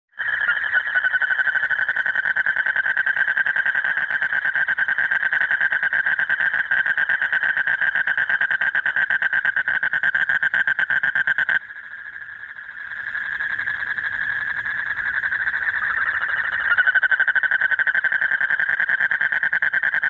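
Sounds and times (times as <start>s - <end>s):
toad trilling call: 0.2s - 20.0s.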